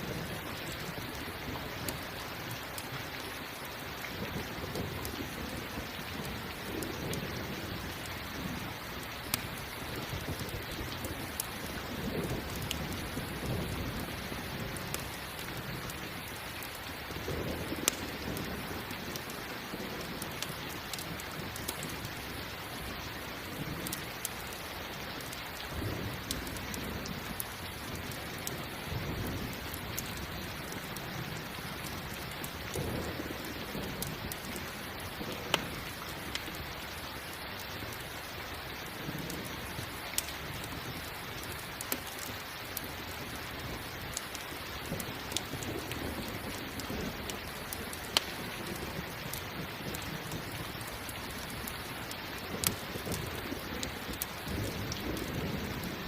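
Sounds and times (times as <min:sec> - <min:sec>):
campfire crackling: 0:00.0 - 0:56.0
steady rain: 0:00.0 - 0:56.0
thunder rumbles: 0:04.0 - 0:24.6, 0:25.2 - 0:36.9, 0:43.1 - 0:56.0.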